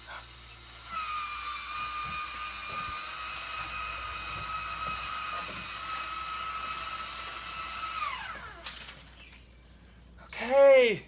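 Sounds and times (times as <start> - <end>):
small electric motor whining: 0.0 - 9.2.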